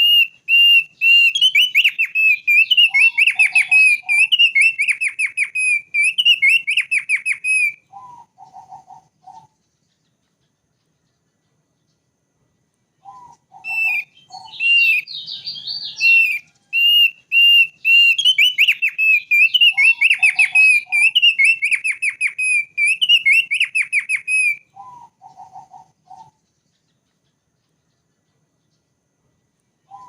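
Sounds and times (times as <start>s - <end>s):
bird singing whistled notes: 0.0s - 12.1s, 12.9s - 29.0s, 29.8s - 30.0s.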